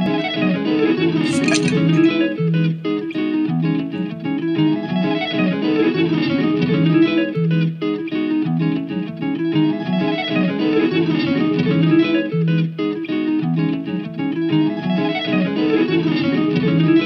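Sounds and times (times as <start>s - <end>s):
guitar instrumental music: 0.0s - 17.0s.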